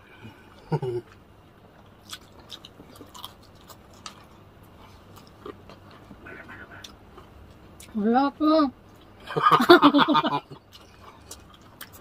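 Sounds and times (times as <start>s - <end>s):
people chewing crispy chicken: 0.1s - 8.0s, 10.2s - 12.0s.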